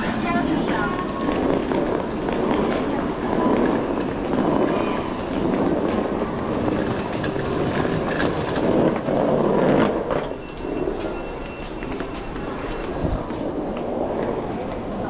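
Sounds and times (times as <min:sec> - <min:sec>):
suitcase wheels rolling on tiles: 0:00.0 - 0:14.9
footsteps: 0:00.0 - 0:15.0.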